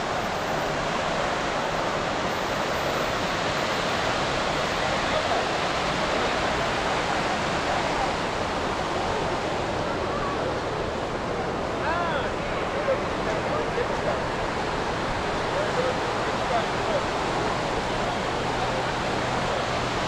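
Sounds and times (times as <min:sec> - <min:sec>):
faint voices: 0:00.0 - 0:20.0
ocean surf on a beach: 0:00.0 - 0:20.0.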